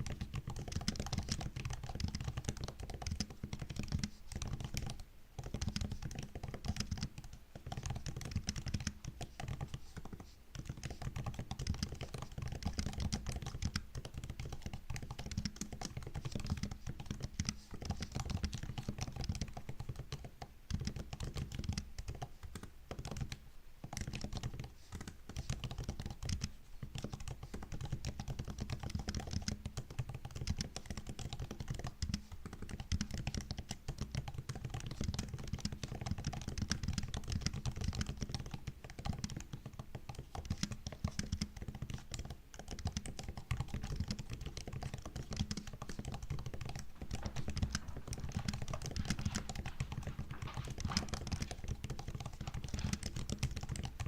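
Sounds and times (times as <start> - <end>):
laptop keyboard typing: 0.0 - 54.0.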